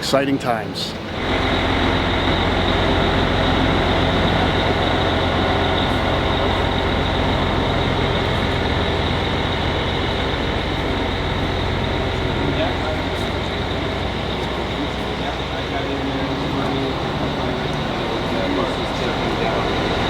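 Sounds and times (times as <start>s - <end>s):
motor vehicle engine rumble: 0.9s - 20.0s
road and wind noise: 1.0s - 20.0s.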